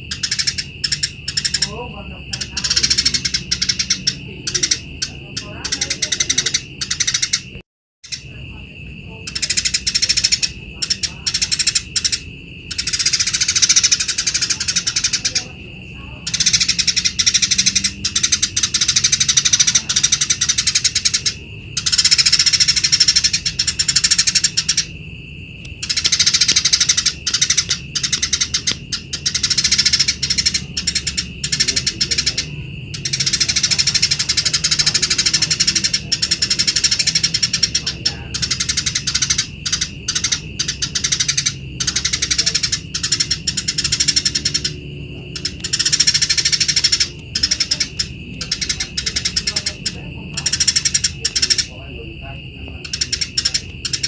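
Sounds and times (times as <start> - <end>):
sparrow rapid chirping song: 0.0 - 54.0.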